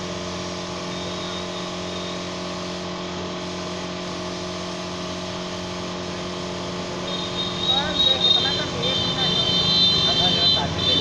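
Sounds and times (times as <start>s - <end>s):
compressor motor humming: 0.0s - 11.0s
paint spray gun hissing: 0.0s - 11.0s.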